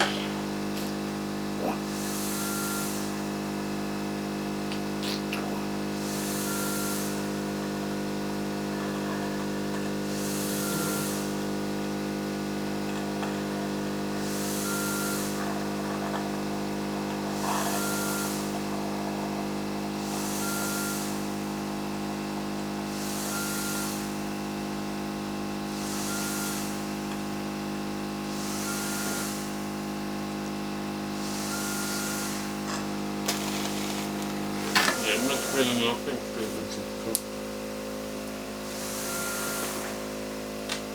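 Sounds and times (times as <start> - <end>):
steady electric hum: 0.0 - 40.9.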